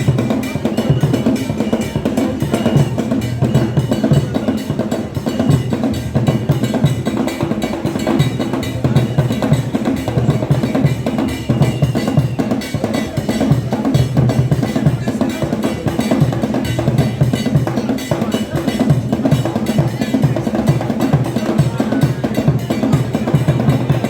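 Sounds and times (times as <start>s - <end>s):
drum-led dance music: 0.0s - 24.0s.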